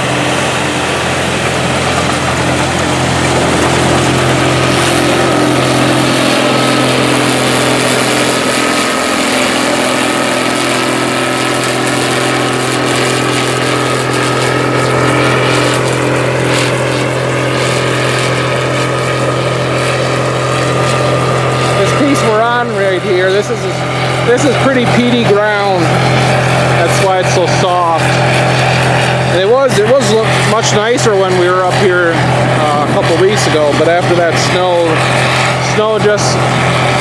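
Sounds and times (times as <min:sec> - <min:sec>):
combine harvester running: 0:00.0 - 0:37.0
steady high whine: 0:00.0 - 0:37.0.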